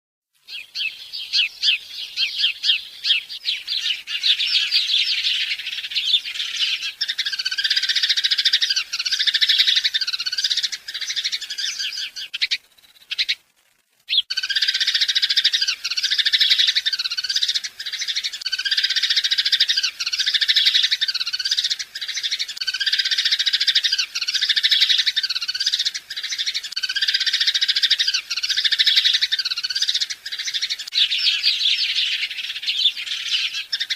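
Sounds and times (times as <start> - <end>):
birds chirping in chorus: 0.4 - 13.4, 14.1 - 33.9.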